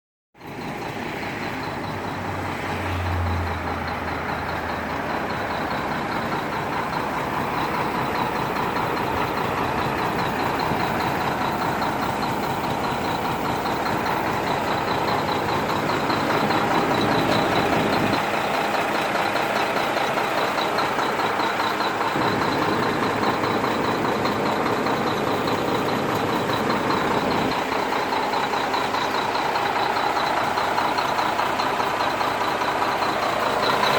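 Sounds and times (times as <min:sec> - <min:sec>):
diesel truck engine running: 0:00.4 - 0:33.9.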